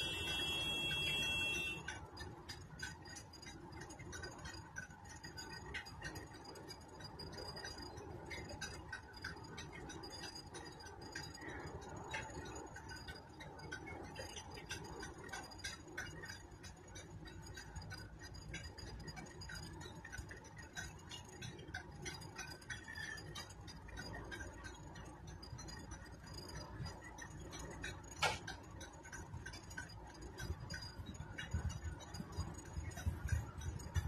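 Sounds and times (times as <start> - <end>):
low steady rumble: 0.0 - 34.0
small clicks and ticks: 0.0 - 34.0.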